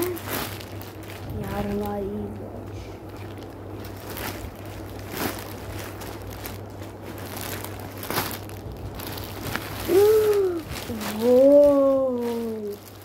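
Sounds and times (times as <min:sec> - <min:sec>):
plastic packaging crinkling: 0:00.0 - 0:13.0
steady low hum: 0:00.0 - 0:13.0.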